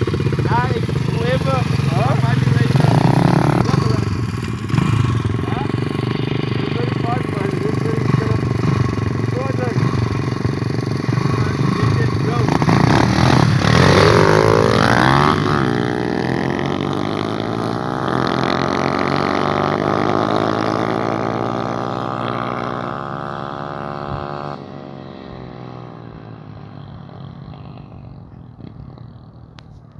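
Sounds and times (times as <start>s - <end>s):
motorcycle engine buzzing: 0.0s - 29.9s.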